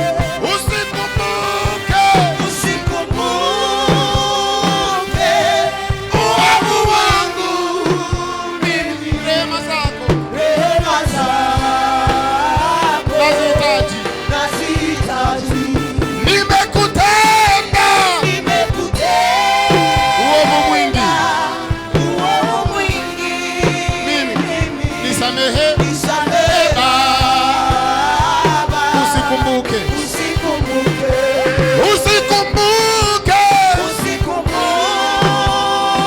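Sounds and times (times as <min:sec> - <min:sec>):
band accompaniment: 0:00.0 - 0:36.0
steady drum beat: 0:00.0 - 0:36.0.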